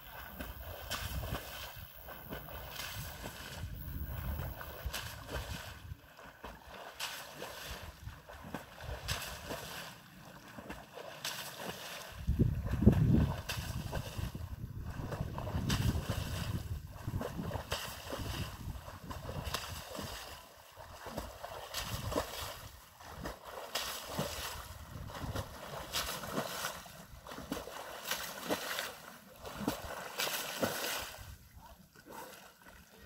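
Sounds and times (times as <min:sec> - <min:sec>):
water splashing from swimming strokes: 0:00.0 - 0:33.0.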